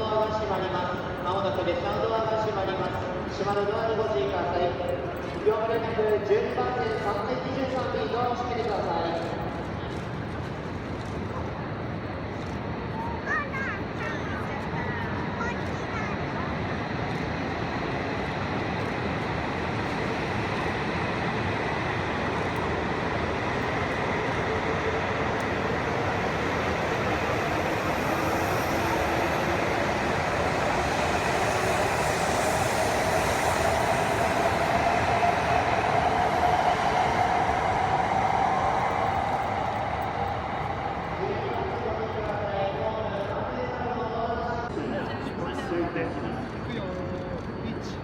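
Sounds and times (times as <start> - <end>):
train running noise: 0.0 - 48.0.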